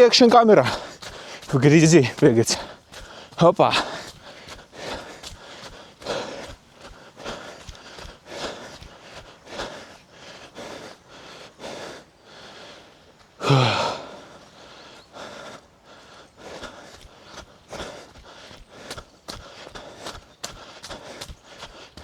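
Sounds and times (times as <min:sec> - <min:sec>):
heavy breathing: 0:00.0 - 0:22.0.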